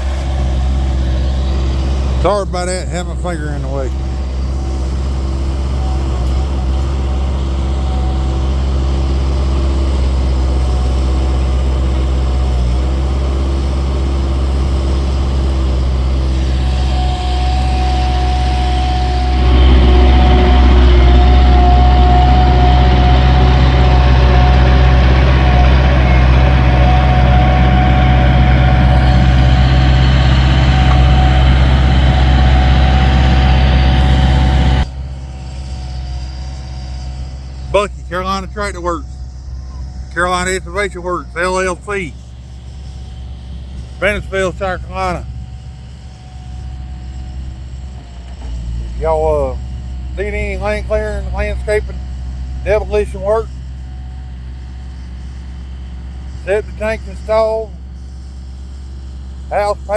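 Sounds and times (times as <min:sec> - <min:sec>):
skid steer diesel engine: 0:00.0 - 0:59.9
thin steady whine: 0:00.0 - 0:59.9.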